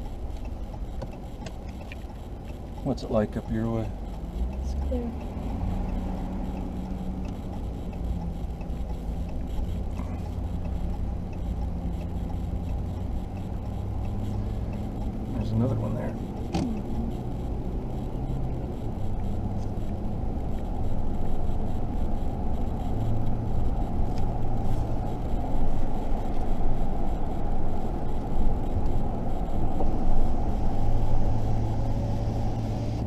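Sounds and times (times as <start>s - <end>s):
road and tyre noise: 0.0s - 33.0s
vehicle engine hum: 0.0s - 33.0s.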